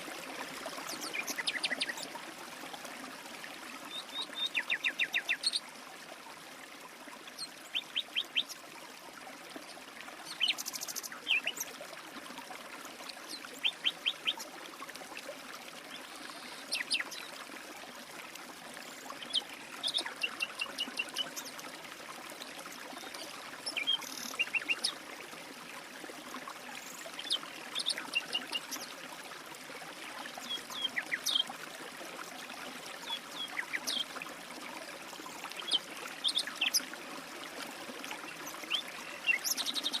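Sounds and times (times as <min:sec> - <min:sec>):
trickle of running water: 0:00.0 - 0:40.0.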